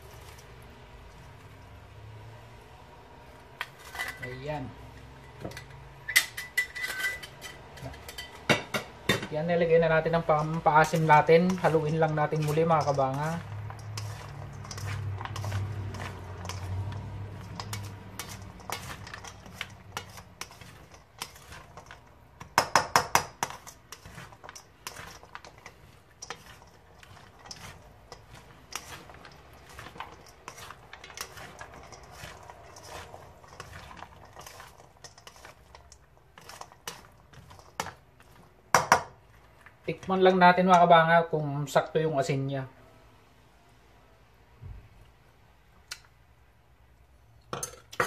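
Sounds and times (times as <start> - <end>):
food mixed in metal bowl scraping: 0.0 - 42.5.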